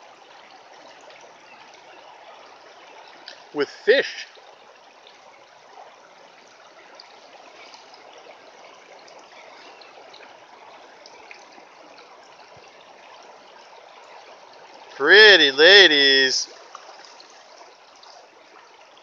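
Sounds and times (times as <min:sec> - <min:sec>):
creek water rushing over gravel: 0:00.0 - 0:19.0.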